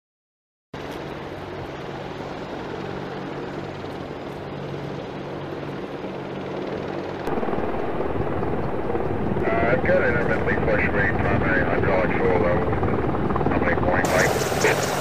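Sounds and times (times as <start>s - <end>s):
helicopter rotor and turbine noise: 0.8s - 15.0s.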